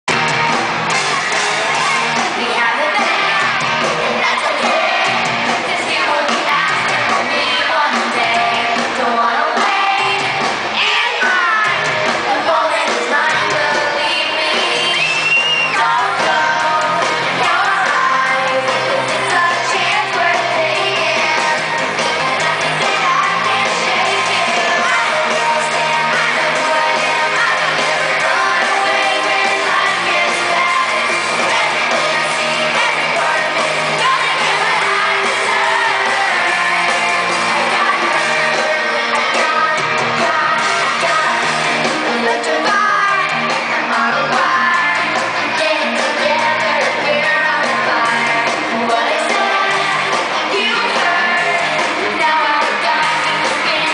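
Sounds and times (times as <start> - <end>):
live pop-rock song through pa: 0.1 - 53.9.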